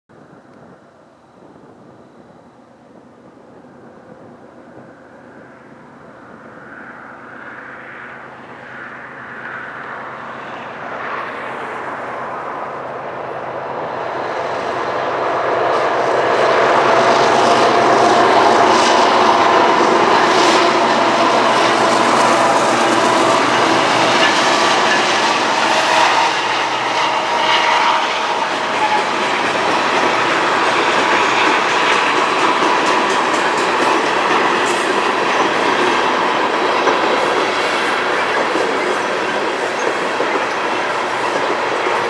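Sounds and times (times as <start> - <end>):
diesel locomotives approaching: 0.2 - 42.0.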